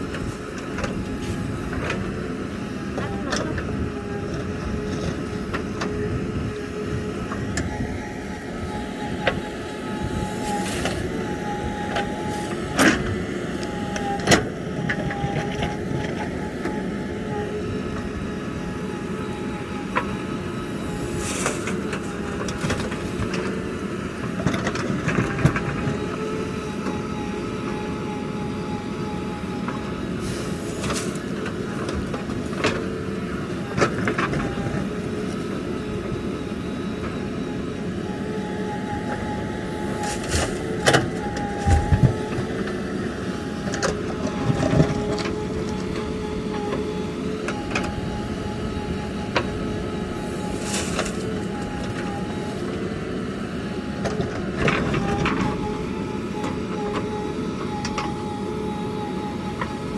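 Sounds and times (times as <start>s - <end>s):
diesel engine running: 0.0s - 59.9s
faint wavering whine: 0.0s - 59.9s.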